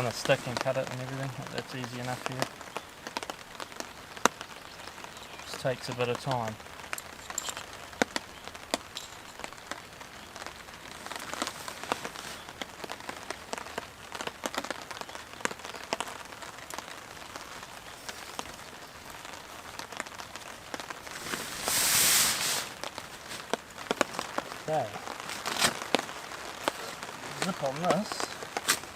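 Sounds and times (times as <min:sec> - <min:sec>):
rain with sharp drop taps: 0:00.0 - 0:28.9.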